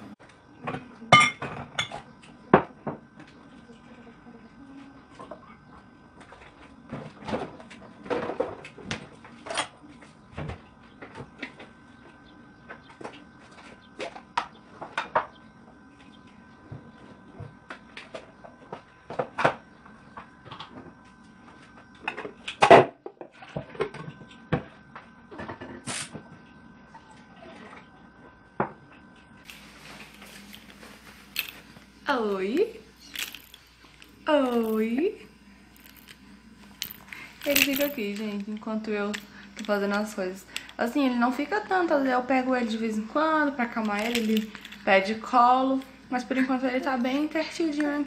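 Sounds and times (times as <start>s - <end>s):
faint high hum: 0.0s - 48.0s.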